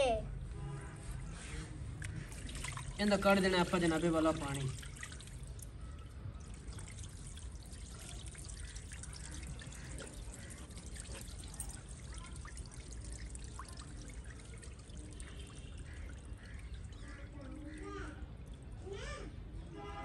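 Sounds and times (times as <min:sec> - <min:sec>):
water pouring onto concrete: 0:01.9 - 0:18.9.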